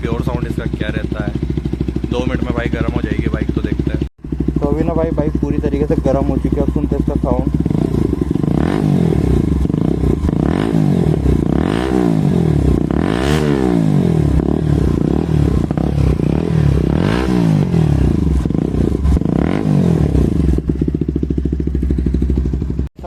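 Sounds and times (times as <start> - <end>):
motorcycle engine idling: 0.0 - 23.0
motorcycle engine revving: 0.0 - 23.0.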